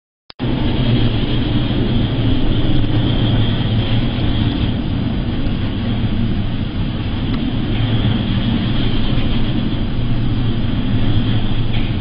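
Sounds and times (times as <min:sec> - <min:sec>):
sea noise: 0:00.4 - 0:12.0
ship engine drone: 0:00.4 - 0:12.0
wind: 0:00.4 - 0:12.0.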